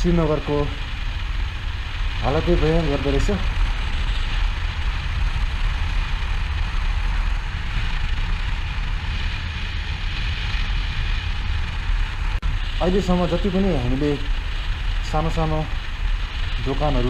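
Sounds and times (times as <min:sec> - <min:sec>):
motorcycle and road rumble: 0:00.0 - 0:17.0
wind buffeting microphone: 0:00.0 - 0:17.0.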